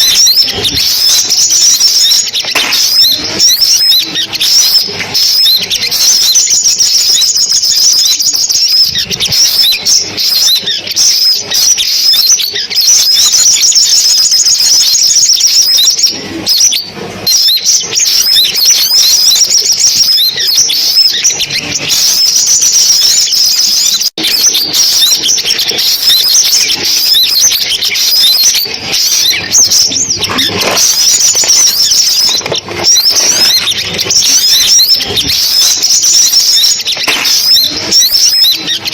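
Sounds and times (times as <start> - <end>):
sunbird chirps and trills: 0.0 - 38.9.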